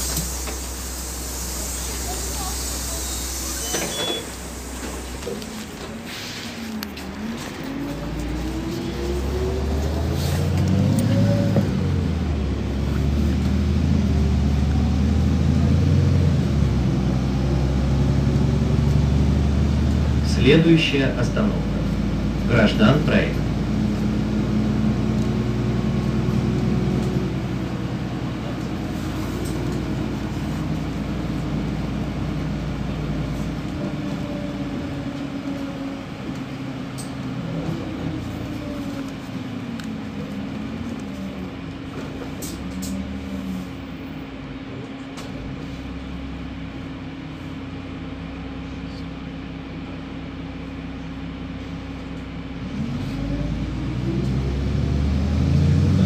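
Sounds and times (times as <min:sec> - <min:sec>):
bus engine humming: 0:00.0 - 0:56.0.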